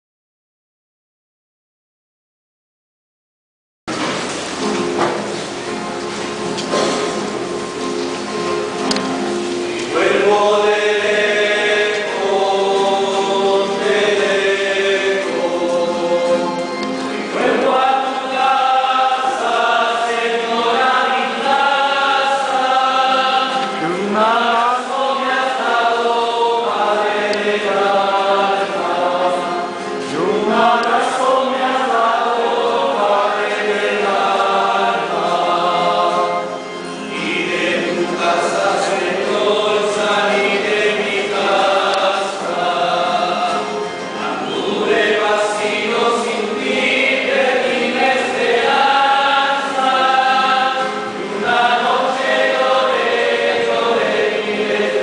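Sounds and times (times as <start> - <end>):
choir singing a hymn: 9.1 - 55.0.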